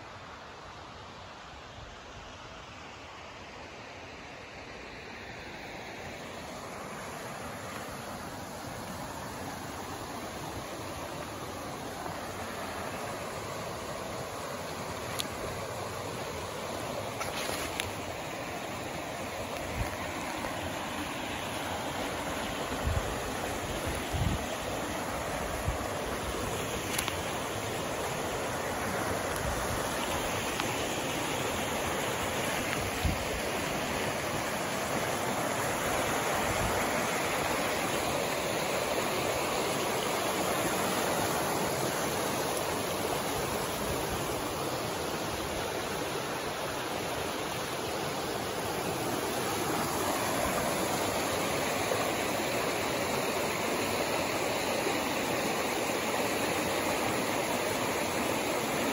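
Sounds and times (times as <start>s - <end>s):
creek rushing over stones: 0.0s - 58.9s.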